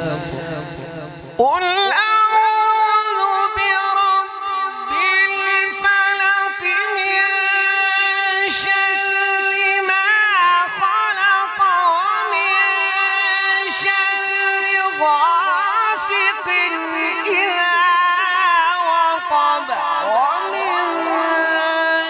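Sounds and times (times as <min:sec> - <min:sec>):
man reciting melodically into microphone: 0:00.0 - 0:22.0.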